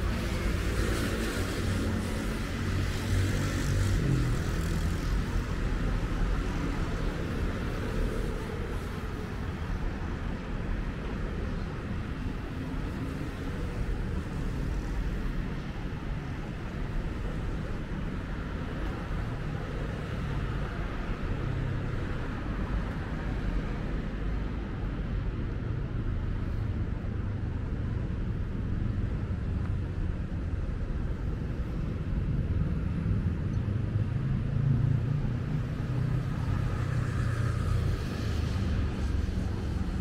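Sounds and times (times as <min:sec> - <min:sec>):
rumble of passing cars: 0:00.0 - 0:40.0.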